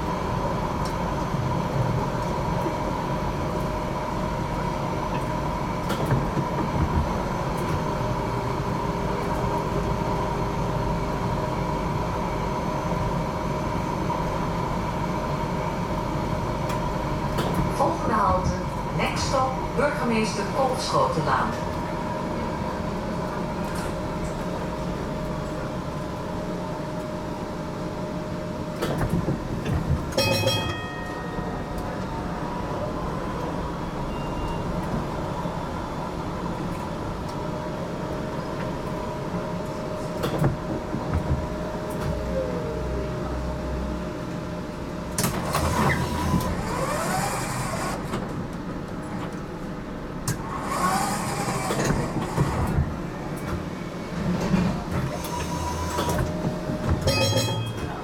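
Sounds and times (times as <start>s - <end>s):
tram electric drive whine: 0.0s - 58.0s
wheels rumbling on track: 0.0s - 58.0s.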